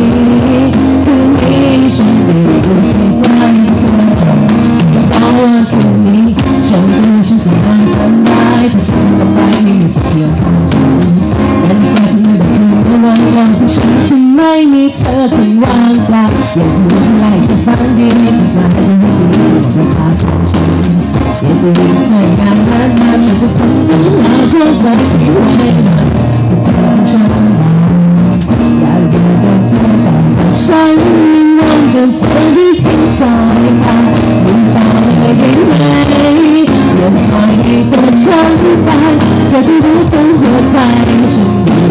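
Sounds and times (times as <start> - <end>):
drum kit: 0.0 - 41.9
electric guitar: 0.0 - 41.9
person singing: 0.0 - 41.9.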